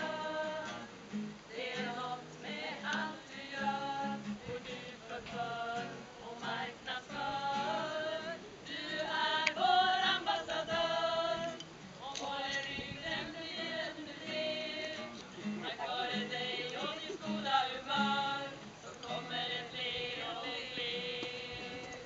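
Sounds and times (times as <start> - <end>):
acoustic guitar: 0.0 - 22.0
group singing together: 0.0 - 22.0.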